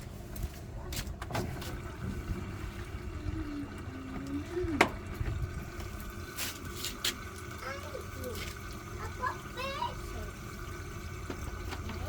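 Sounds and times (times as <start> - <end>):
washing machine churning: 0.0 - 12.0
water running in: 1.4 - 12.0.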